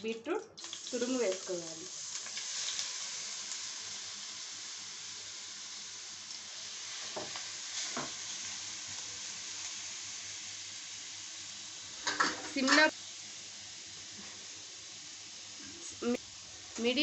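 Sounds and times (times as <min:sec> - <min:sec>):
frying hiss in pan: 0:00.0 - 0:17.0.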